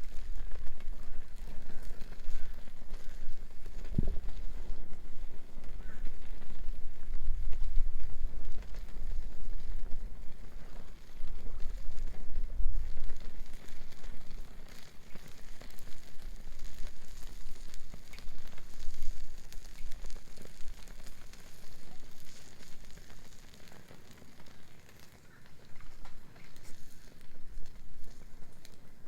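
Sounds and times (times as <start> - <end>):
bonfire crackling and popping: 0.0 - 29.0
steady hiss: 0.0 - 29.0.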